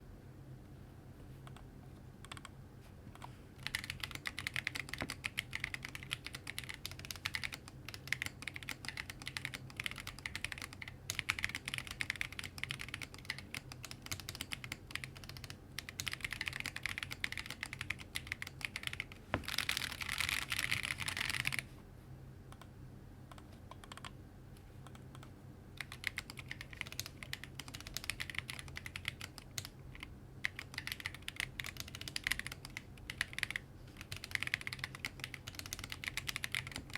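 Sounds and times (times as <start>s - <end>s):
mechanical keyboard typing: 3.6s - 21.6s, 23.3s - 24.1s, 24.9s - 36.9s.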